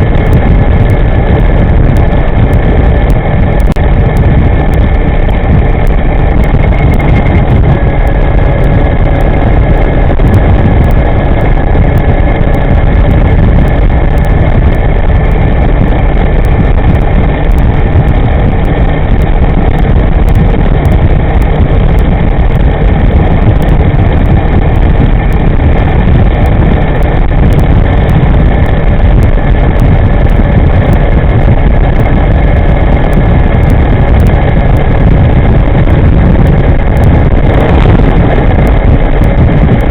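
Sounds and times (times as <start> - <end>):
electric scooter road noise: 0.0 - 39.9
wind rushing: 0.0 - 39.9.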